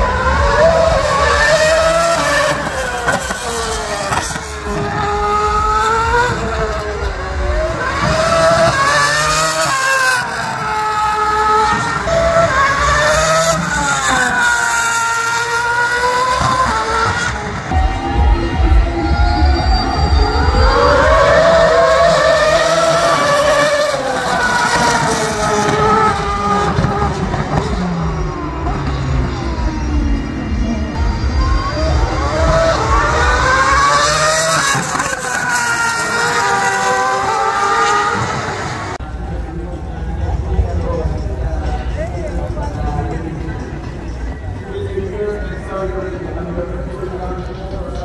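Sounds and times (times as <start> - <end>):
race car engine at high revs: 0.0 - 48.0.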